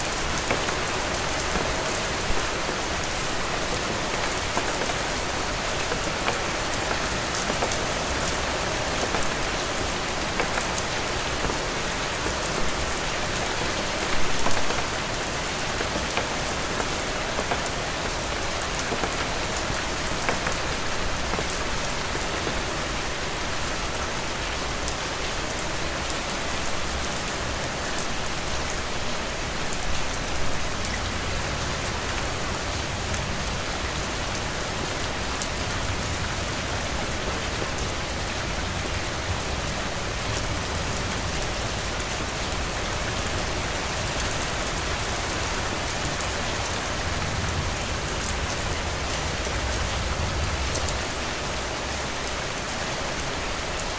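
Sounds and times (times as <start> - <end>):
heavy rain on a roof: 0.0 - 53.9.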